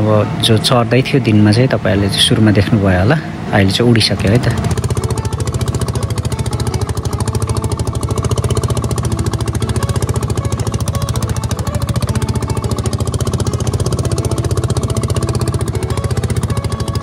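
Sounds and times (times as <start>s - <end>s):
outboard motor putt-putt: 2.3s - 17.0s.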